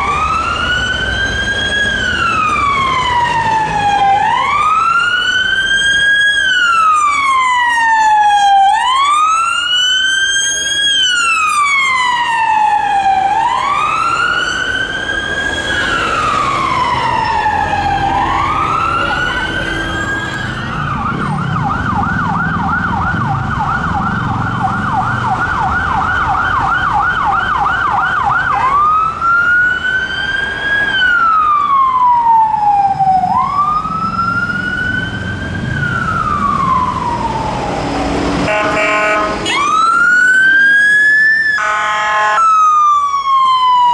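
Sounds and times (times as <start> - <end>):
engine and traffic noise: 0.0 - 43.9
police siren wailing: 0.0 - 43.9
police siren yelping: 0.0 - 43.9.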